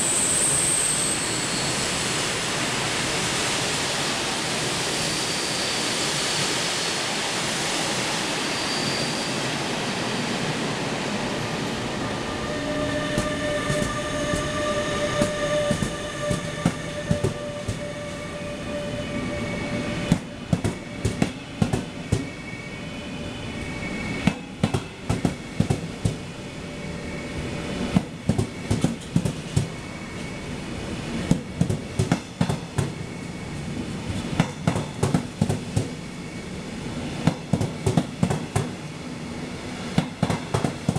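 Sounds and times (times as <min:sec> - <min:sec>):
train rumbling on rails: 0:00.0 - 0:40.9
train wheels squealing: 0:00.0 - 0:40.9.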